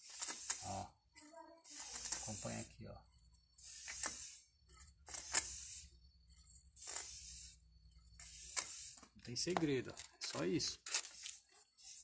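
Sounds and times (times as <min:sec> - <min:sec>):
spray paint can hissing: 0:00.0 - 0:02.8, 0:03.5 - 0:09.2, 0:10.2 - 0:12.0.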